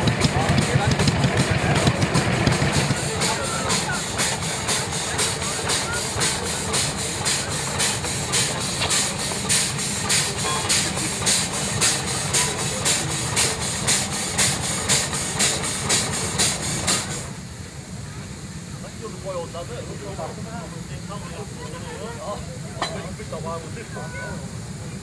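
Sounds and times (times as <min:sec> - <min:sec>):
low engine rumble: 0:00.0 - 0:25.0
steam engine hissing chuff: 0:00.0 - 0:25.0.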